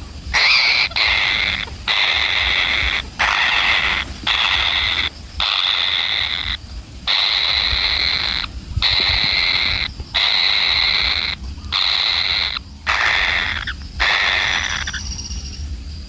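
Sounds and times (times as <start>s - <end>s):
animal harsh rasping calls: 0.3s - 15.2s.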